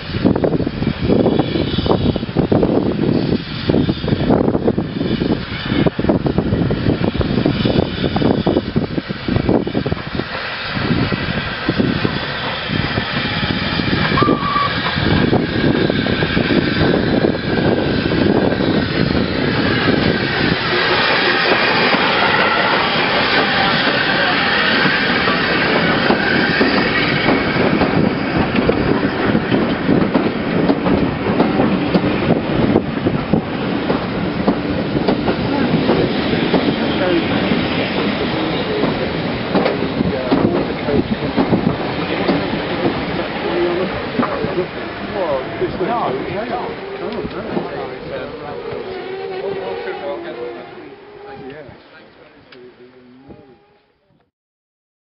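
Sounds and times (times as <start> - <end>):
train wheels clicking over rail joints: 0.0 - 52.6
steam locomotive passing: 0.0 - 54.2.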